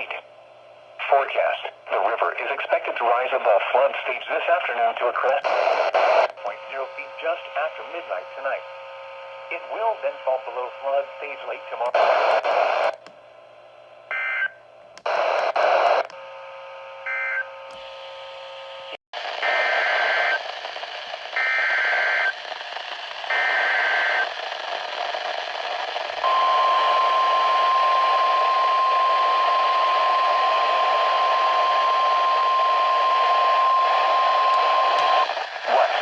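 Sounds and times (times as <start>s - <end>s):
radio static: 0.0s - 0.3s, 1.0s - 13.0s, 15.0s - 16.7s, 19.2s - 36.0s.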